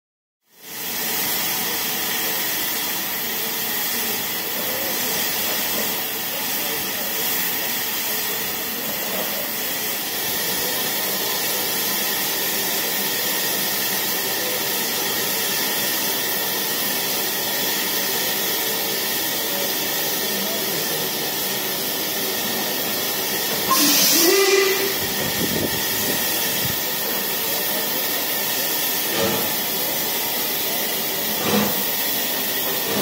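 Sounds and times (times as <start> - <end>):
sharp burst of steam: 0.5 - 33.0
steam locomotive hissing steam: 0.5 - 33.0.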